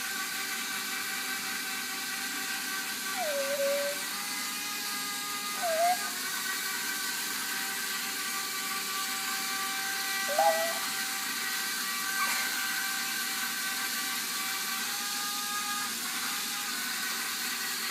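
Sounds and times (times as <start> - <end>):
toy robot motors whirring: 0.0 - 17.9.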